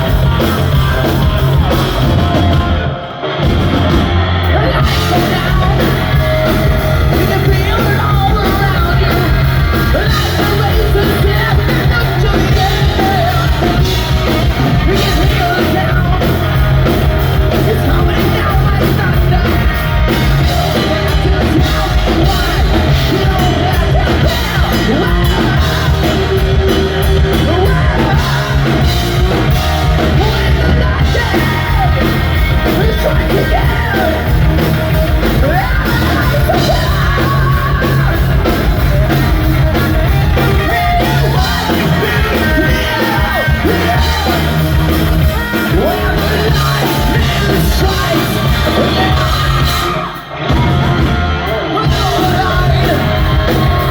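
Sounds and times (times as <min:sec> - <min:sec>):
hard rock band playing: 0:00.0 - 0:53.9.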